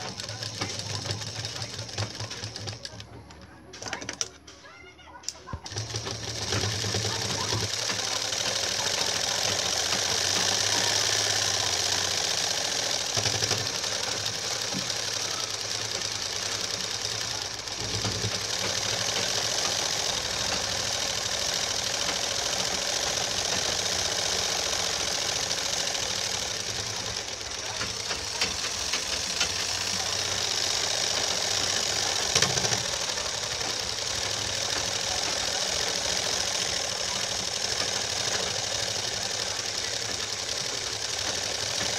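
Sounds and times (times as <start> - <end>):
sewing machine running fast: 0.0 - 3.2, 5.6 - 41.9.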